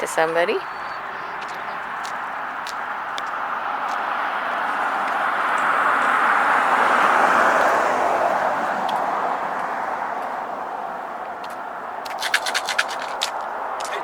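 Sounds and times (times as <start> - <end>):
passing car road noise: 0.0 - 14.0.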